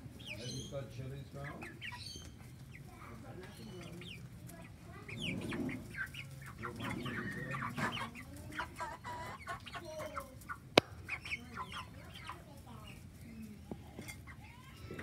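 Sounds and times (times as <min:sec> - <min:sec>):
chickens clucking and chirping: 0:00.0 - 0:15.0.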